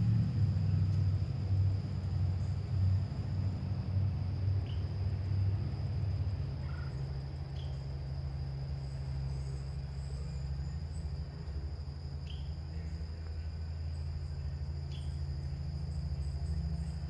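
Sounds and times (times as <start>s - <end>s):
crickets trilling: 0.0s - 17.0s
distant road traffic rumble: 0.0s - 17.0s.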